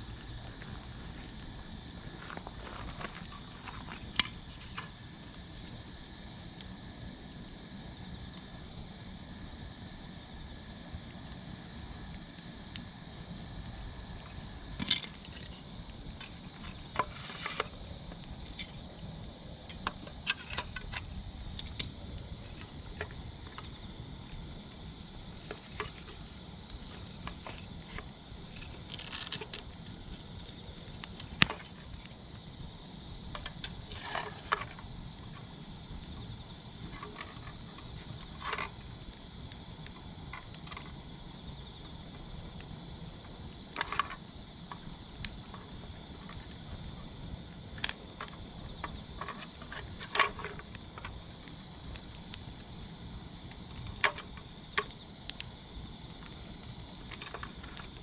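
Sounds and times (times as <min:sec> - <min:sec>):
campfire crackling and popping: 0:00.0 - 0:58.0
fire hissing: 0:00.0 - 0:58.0.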